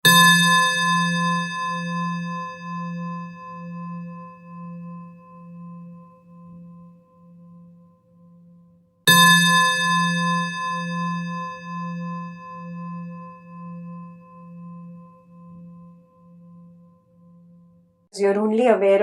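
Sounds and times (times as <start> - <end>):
singing bowl ringing: 0.0 - 18.1.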